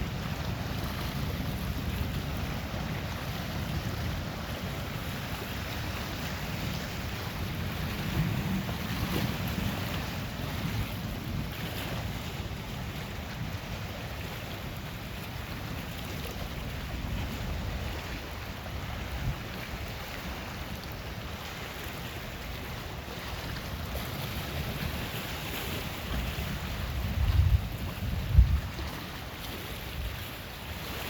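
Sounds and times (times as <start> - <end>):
lake waves washing: 0.0 - 31.0
wind rumbling on microphone: 0.0 - 31.0.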